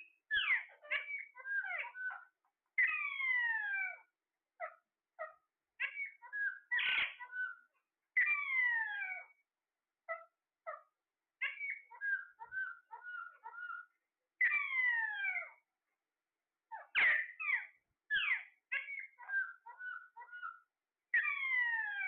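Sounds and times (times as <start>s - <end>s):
parrot chirps and squawks: 0.0s - 9.4s, 10.0s - 15.7s, 16.7s - 22.0s.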